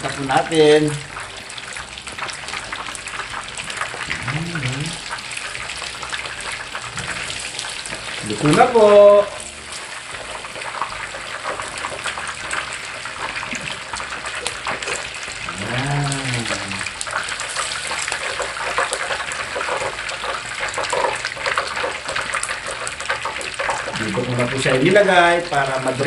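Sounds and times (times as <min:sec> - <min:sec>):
deep-frying sizzle: 0:00.0 - 0:26.0.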